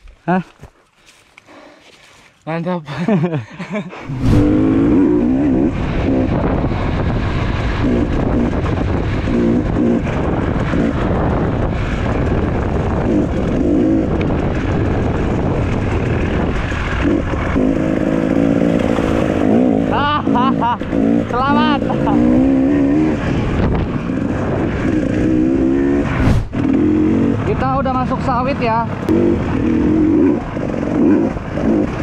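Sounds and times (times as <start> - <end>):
dirt bike engine revving: 4.1 - 32.0.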